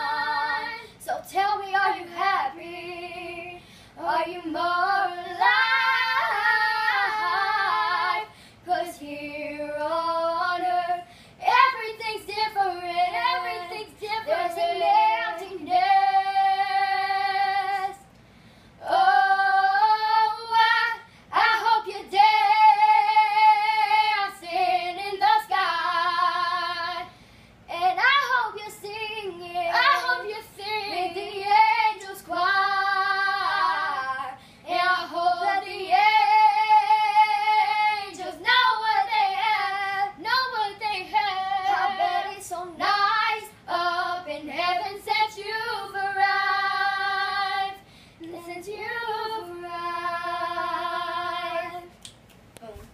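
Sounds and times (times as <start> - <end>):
girls singing a slow ballad: 0.0 - 52.2.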